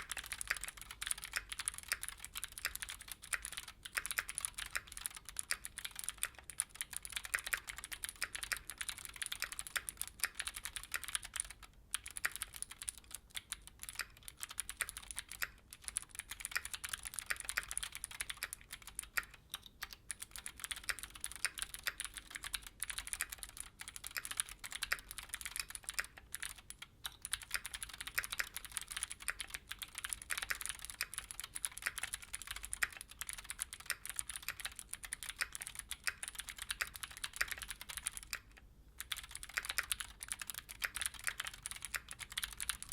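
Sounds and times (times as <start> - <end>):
fast mechanical keyboard typing: 0.0 - 42.9.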